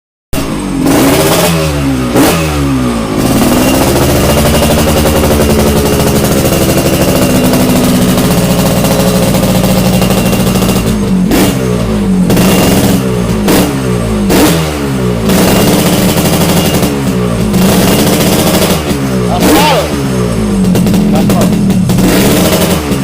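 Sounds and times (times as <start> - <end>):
motorcycle engine revving: 0.4 - 23.0.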